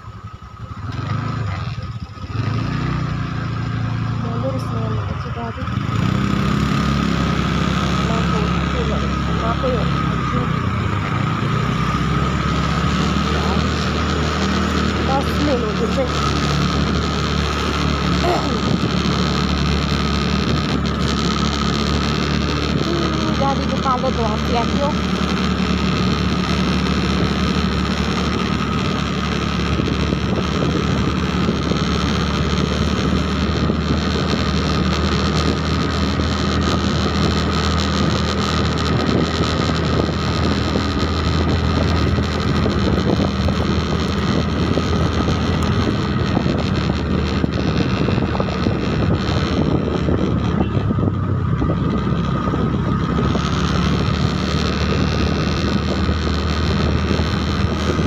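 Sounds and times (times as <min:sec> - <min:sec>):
vehicle engine running: 0:00.0 - 0:58.0
wind noise on microphone: 0:04.9 - 0:58.0.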